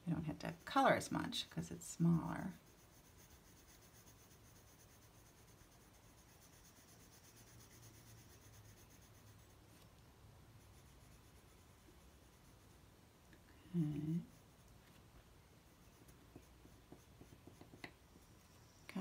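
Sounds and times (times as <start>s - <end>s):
pencil scratching on paper: 0.2s - 9.9s, 10.6s - 12.8s, 13.7s - 18.6s.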